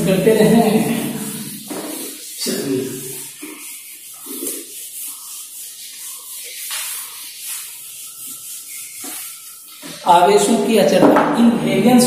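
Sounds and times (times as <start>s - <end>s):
duster rubbing on whiteboard: 0.0s - 12.0s.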